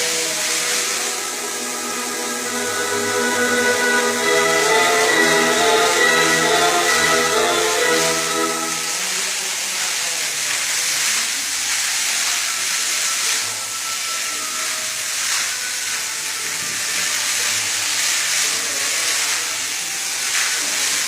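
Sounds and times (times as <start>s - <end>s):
water fountain splashing: 0.0s - 21.0s.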